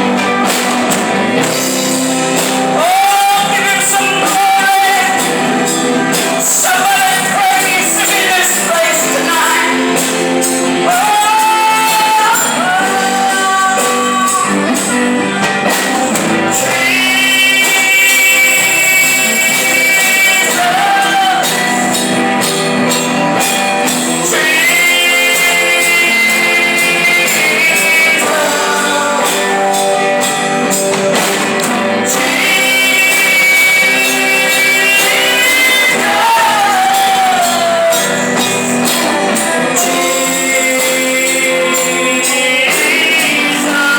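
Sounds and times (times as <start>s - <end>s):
live band accompaniment: 0.0s - 43.9s.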